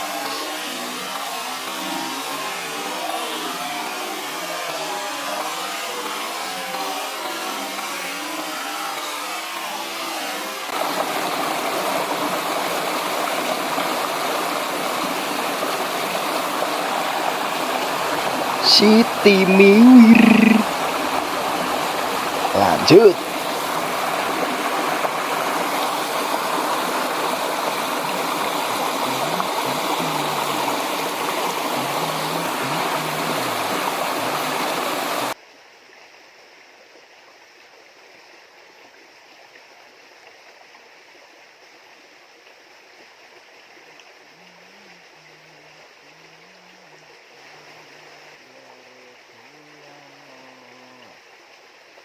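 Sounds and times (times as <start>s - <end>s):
river water rushing: 0.0s - 35.4s, 42.6s - 50.5s.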